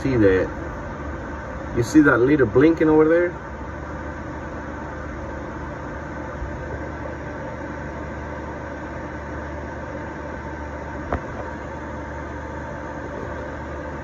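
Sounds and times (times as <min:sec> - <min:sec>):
milling machine spindle motor hum: 0:00.0 - 0:14.0.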